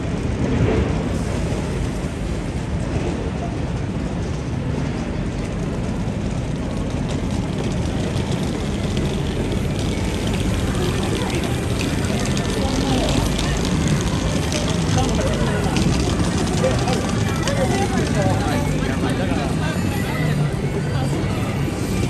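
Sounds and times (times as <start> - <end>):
rumble of vehicles: 0.0 - 22.0.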